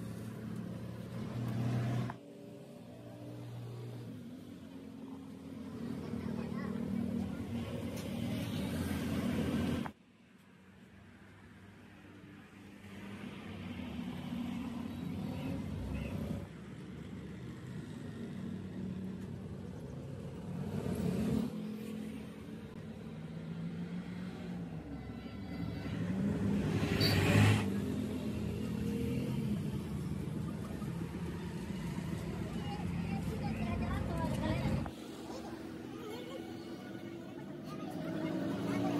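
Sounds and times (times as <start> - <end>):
vehicle engines running: 0.0 - 10.0, 13.8 - 38.9
vehicles passing: 0.0 - 38.9.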